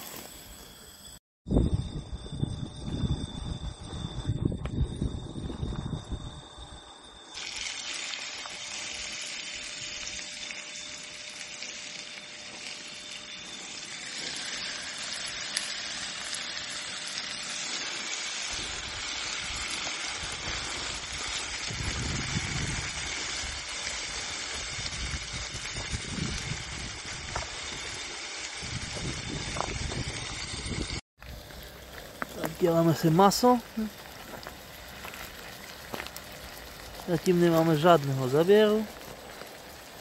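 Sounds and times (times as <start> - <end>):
meat sizzling in hot oil: 7.2 - 40.0.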